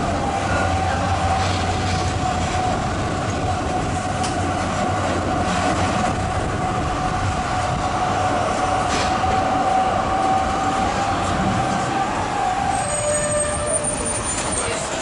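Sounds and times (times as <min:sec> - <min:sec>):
tram wheels rolling on rail: 0:00.0 - 0:15.0.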